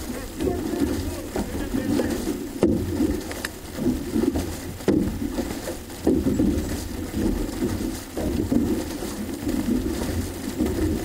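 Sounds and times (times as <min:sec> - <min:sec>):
paddles catching water: 0:00.0 - 0:11.0
water washing along hull: 0:00.0 - 0:11.0.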